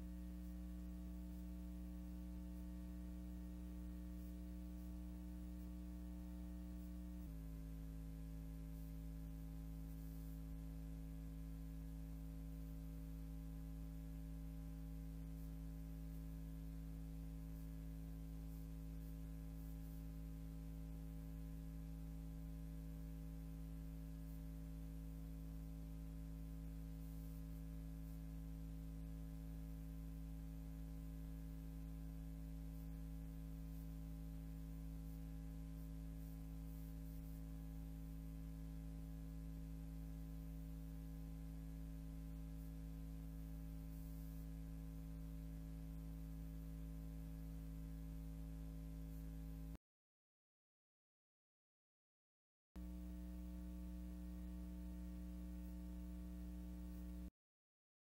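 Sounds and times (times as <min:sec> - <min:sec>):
buzzy electrical hum: 0:00.0 - 0:49.8, 0:52.8 - 0:57.3.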